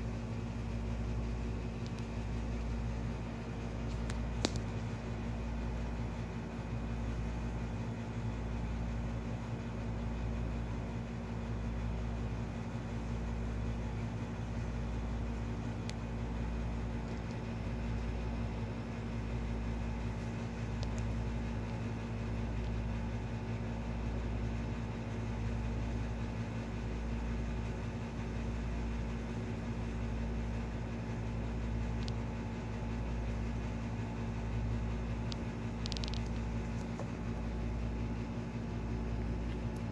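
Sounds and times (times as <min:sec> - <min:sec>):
machine hum with throb: 0:00.0 - 0:39.9.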